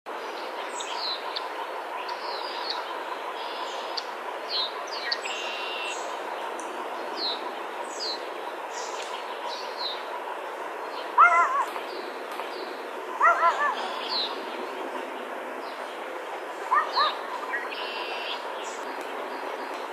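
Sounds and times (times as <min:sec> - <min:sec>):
songbirds chirping: 0:00.1 - 0:19.9
steady hiss: 0:00.1 - 0:19.9.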